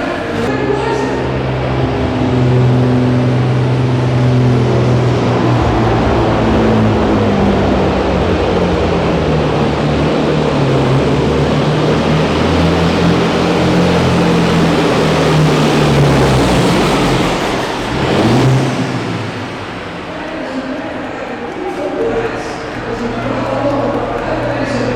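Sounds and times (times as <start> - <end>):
diesel truck engine under load: 0.0 - 24.9.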